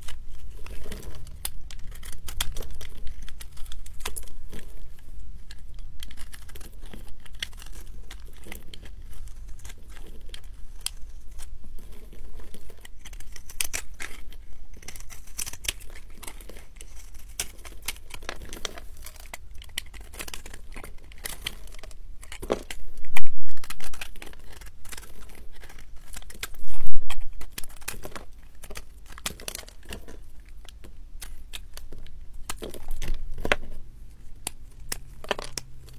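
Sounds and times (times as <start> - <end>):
fingers crushing soap shavings: 0.0 - 35.9
knife scraping and cutting soap: 0.0 - 35.9.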